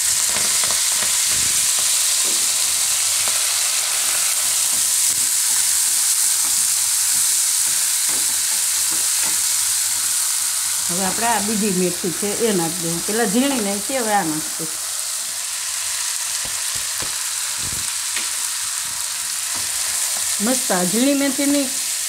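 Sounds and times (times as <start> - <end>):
leaves sizzling in hot oil: 0.0 - 22.0.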